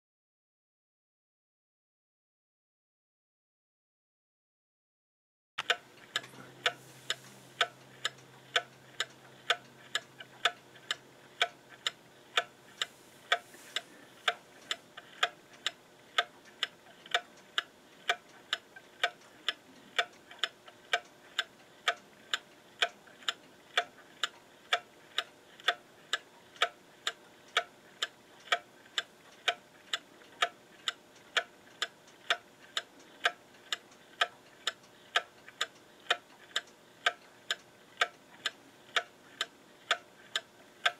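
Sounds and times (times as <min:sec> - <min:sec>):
clock ticking: 0:05.6 - 0:13.5, 0:14.2 - 0:40.9.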